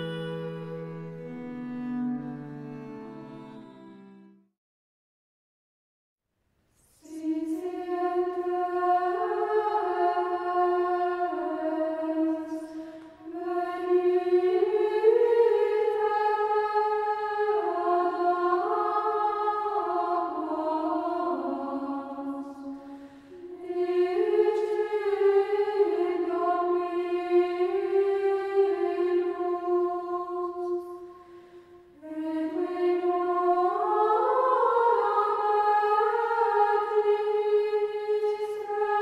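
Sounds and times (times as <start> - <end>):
choir singing unaccompanied: 0.0 - 3.8, 7.0 - 39.0.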